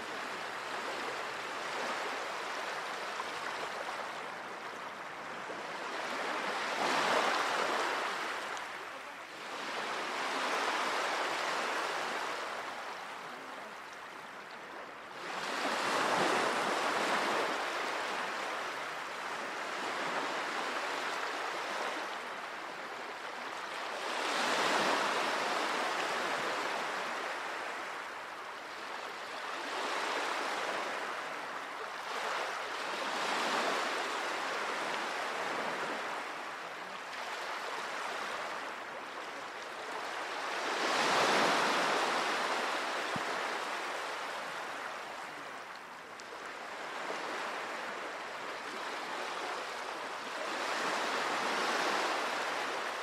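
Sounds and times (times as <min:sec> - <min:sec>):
sea waves washing onto shore: 0:00.0 - 0:53.0.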